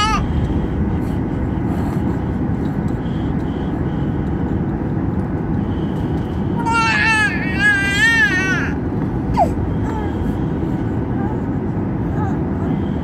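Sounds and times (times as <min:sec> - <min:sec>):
jet engine and wheels rumbling: 0:00.0 - 0:13.0.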